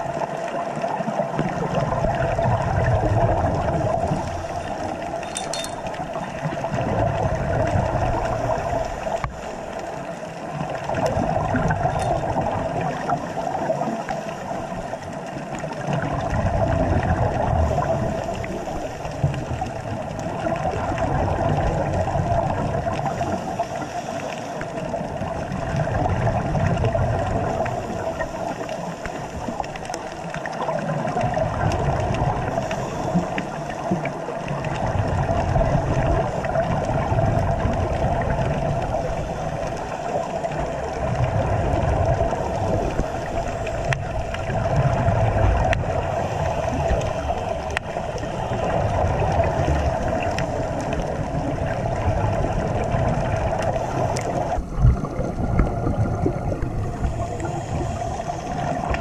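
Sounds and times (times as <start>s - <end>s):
muffled underwater hum: 0.0s - 59.0s
low underwater rumble: 1.2s - 15.0s, 25.0s - 59.0s.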